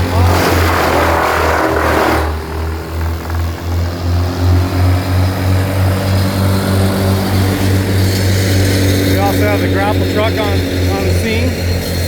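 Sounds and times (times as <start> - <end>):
branches grinding in chipper: 0.0 - 10.8
wood chipper engine droning: 0.0 - 12.0.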